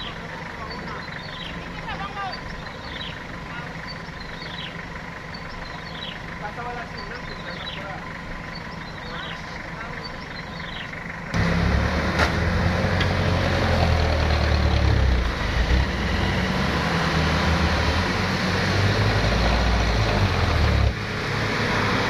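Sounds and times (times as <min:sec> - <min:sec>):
diesel engines straining under load: 0:00.0 - 0:22.0.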